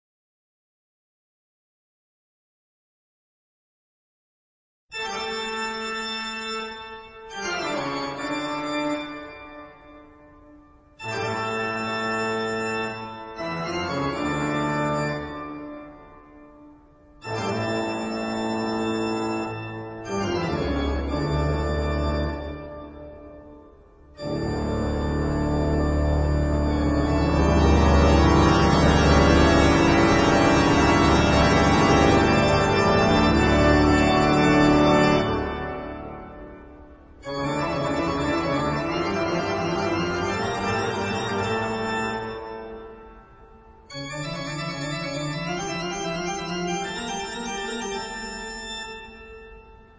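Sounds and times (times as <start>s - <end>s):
organ chords: 4.9s - 49.9s.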